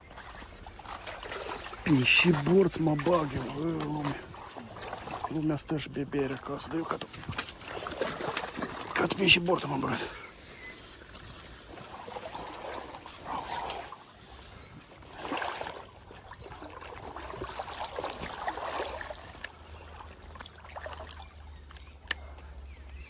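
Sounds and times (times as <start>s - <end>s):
shallow river water trickling: 0.0s - 23.0s.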